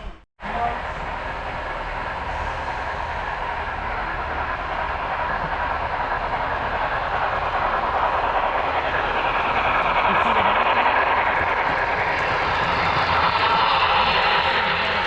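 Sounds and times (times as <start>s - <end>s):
model train rolling whir: 0.5s - 15.0s.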